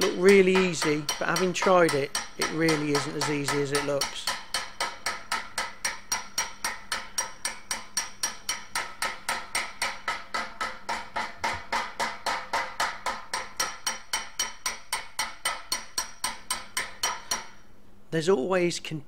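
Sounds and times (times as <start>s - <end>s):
hammer striking metal: 0.0s - 17.6s.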